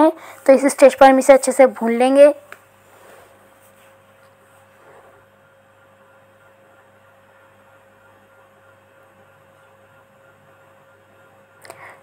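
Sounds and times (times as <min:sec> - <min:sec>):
electrical hum with high tone: 0:00.0 - 0:12.0.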